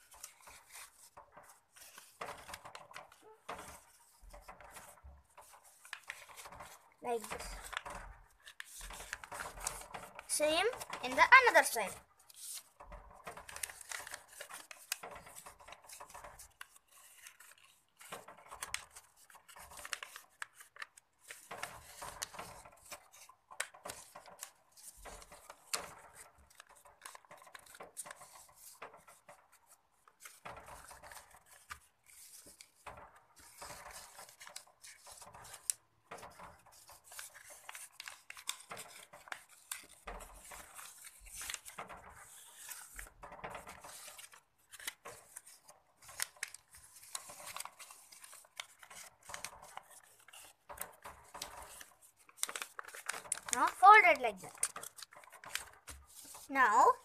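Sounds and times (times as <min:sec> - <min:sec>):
paper crackles: 0:00.0 - 0:57.0
paper crinkling and rustling: 0:00.0 - 0:57.0.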